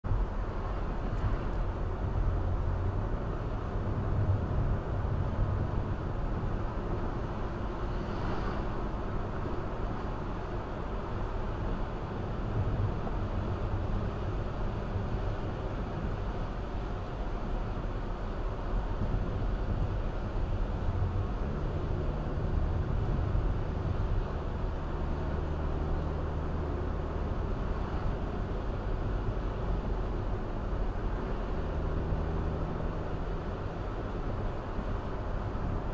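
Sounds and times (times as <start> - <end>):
car tyres on wet road: 0.1 - 35.9.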